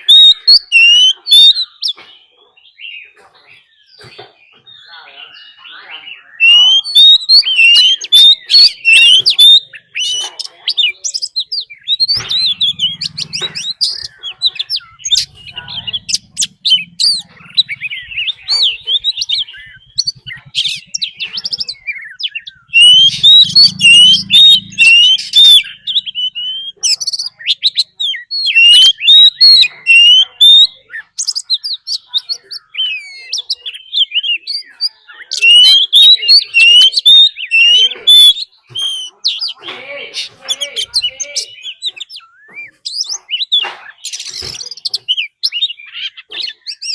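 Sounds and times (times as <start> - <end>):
bird singing whistles and chirps: 0.0 - 46.9.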